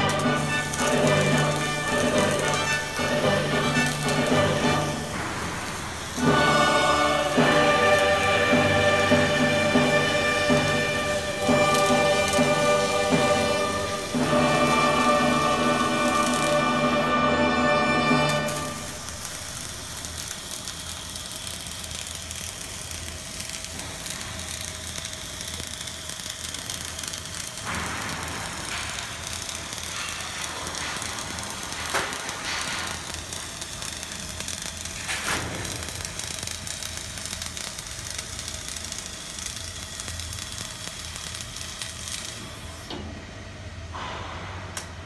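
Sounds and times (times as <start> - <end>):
sharp welding pops: 0.0 - 17.2, 18.0 - 43.1
welding arc crackling: 0.0 - 43.0.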